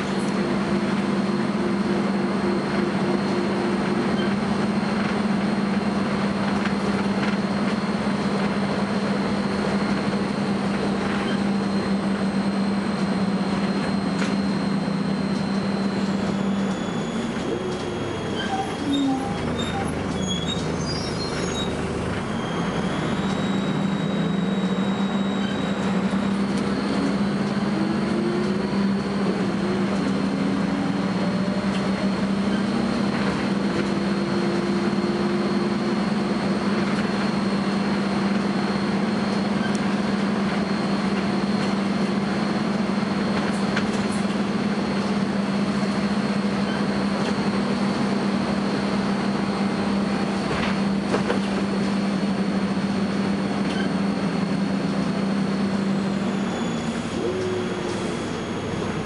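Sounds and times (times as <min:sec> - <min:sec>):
bus engine drone: 0:00.0 - 0:59.0
high-pitched whine: 0:08.8 - 0:59.0.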